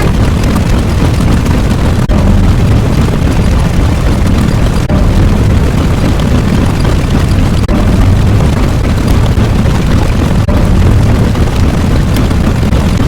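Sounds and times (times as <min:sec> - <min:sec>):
explosion rumbling: 0:00.0 - 0:13.0.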